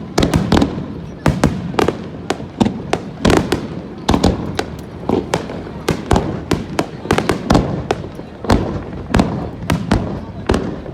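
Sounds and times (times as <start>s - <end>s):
fireworks bursting: 0.0s - 10.9s.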